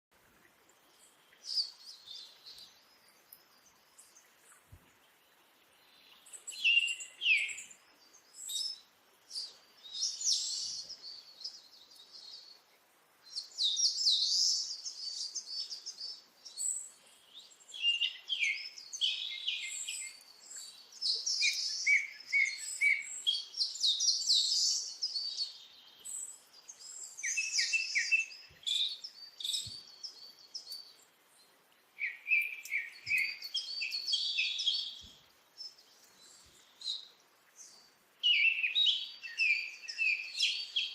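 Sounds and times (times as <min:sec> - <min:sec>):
small birds chirping: 0:00.2 - 0:40.9.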